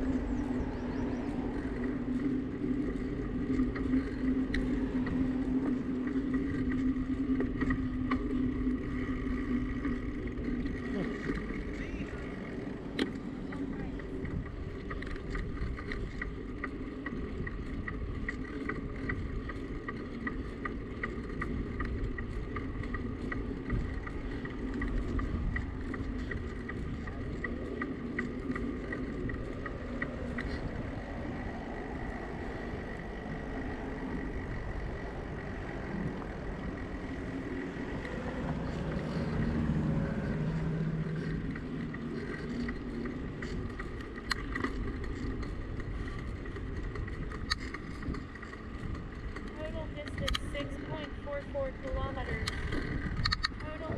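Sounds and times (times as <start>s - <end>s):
light ticking: 0.0s - 53.9s
low hum: 0.0s - 53.9s
wind and tyre noise: 0.0s - 53.9s.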